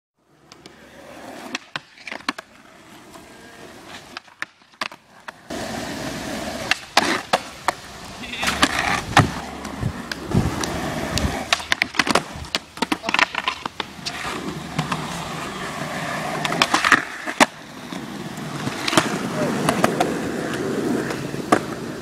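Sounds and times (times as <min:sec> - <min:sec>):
skateboards rolling on concrete: 0:00.2 - 0:22.0
skateboard clacks: 0:00.4 - 0:05.8, 0:06.4 - 0:22.0
skateboard grinding on ledge: 0:00.6 - 0:22.0.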